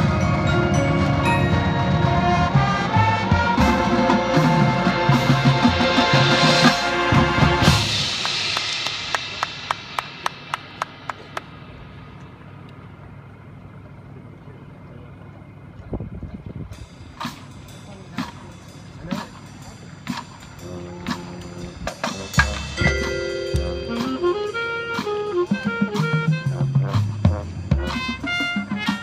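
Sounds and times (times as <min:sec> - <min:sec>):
marching band playing: 0:00.0 - 0:13.3, 0:16.7 - 0:29.0.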